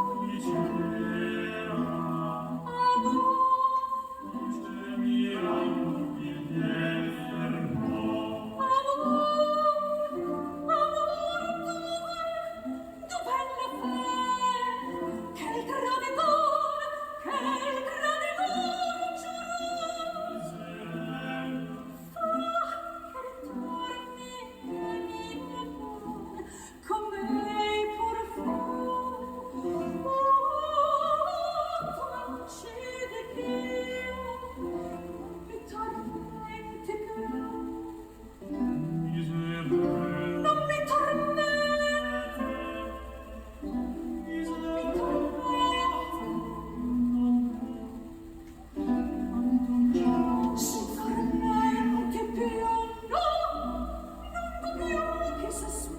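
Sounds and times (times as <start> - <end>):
musical accompaniment: 0.0 - 55.9
operatic singing with vibrato: 0.0 - 55.9.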